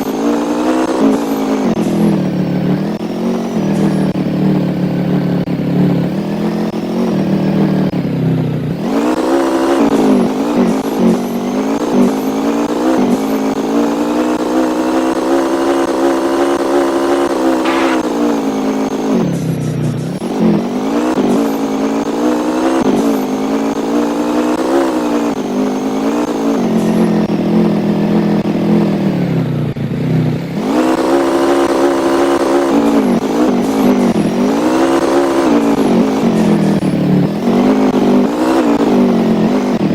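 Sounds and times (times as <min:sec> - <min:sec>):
vehicle engine under load: 0:00.0 - 0:39.9.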